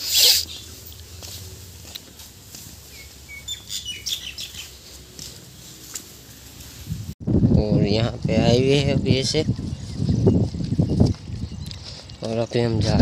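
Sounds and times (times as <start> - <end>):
small birds chirping: 0.0 - 6.2, 8.6 - 13.0.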